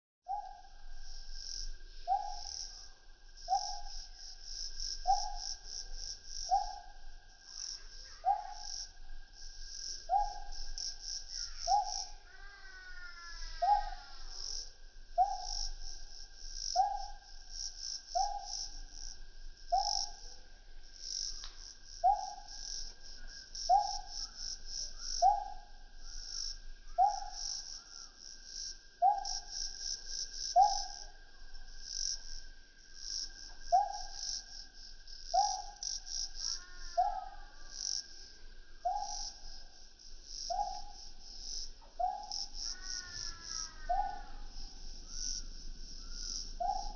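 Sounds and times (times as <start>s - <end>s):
crickets and insects chirping: 0.3s - 46.9s.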